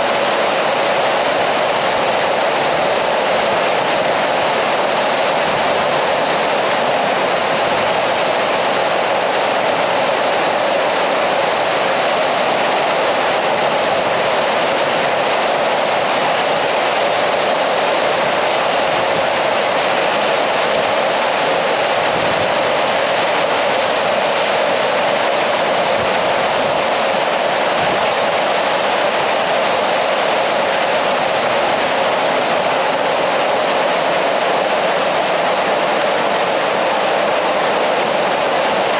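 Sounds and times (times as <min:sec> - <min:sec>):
water rushing in a cave: 0:00.0 - 0:38.9.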